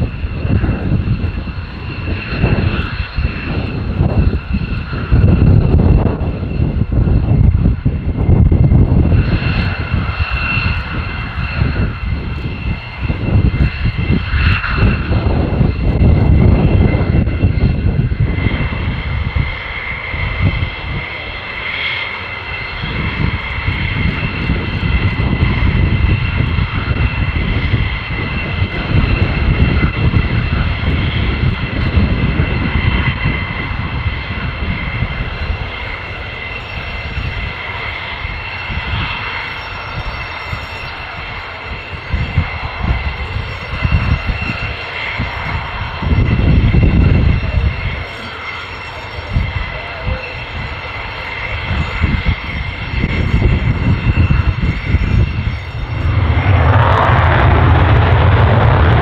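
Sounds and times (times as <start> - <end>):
jet fighters taxiing: 0.0 - 59.0.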